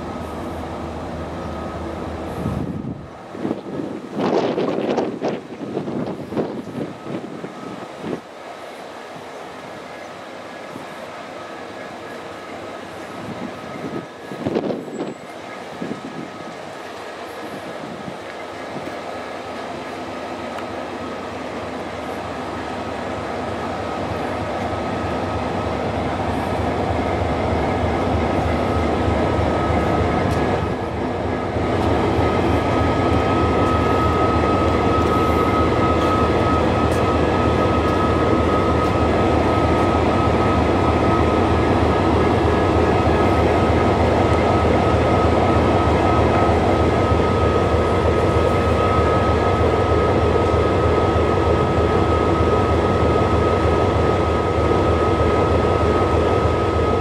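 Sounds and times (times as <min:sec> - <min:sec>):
locomotive engine hum: 0:00.0 - 0:57.0
steady high whine: 0:09.7 - 0:57.0.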